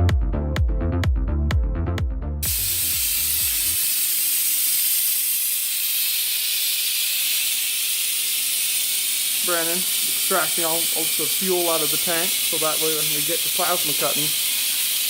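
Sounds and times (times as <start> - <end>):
fluid extractor hissing: 2.4 - 15.0.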